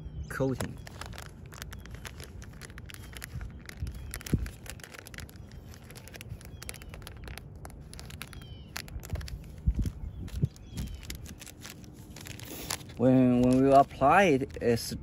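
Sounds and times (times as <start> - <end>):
low outdoor rumble: 0.0 - 15.0
clicks and rustles of handling: 0.4 - 15.0.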